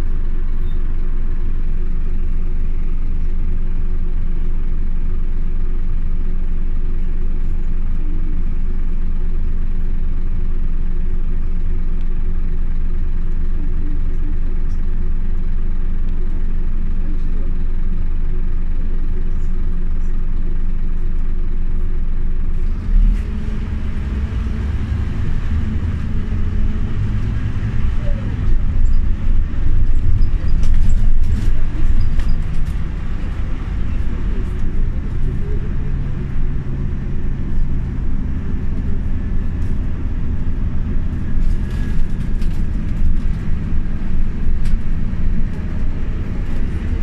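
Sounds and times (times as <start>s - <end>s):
bus engine hum: 0.0s - 47.0s
rough engine rumble: 0.0s - 47.0s.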